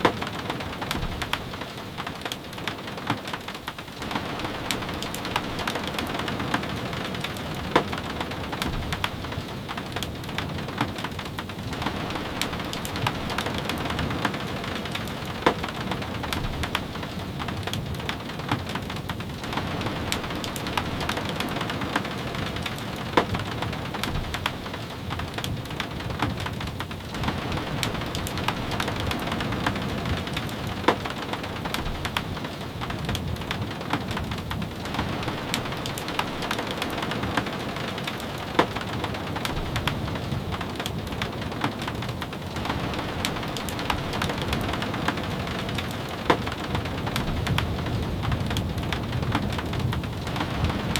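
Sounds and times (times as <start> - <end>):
rain hissing and pattering: 0.0 - 50.9.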